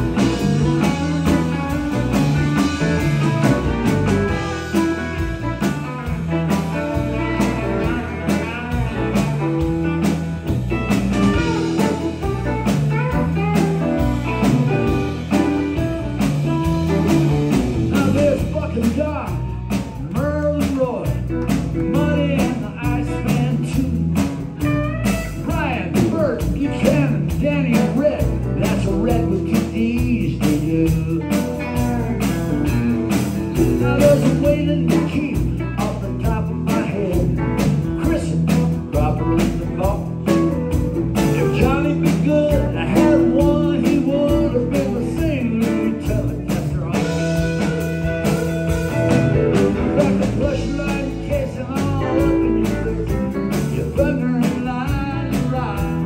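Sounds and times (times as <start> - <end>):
drums with steady beat: 0.0 - 56.0
electric bass: 0.0 - 56.0
electric guitars with bent notes: 0.0 - 56.0.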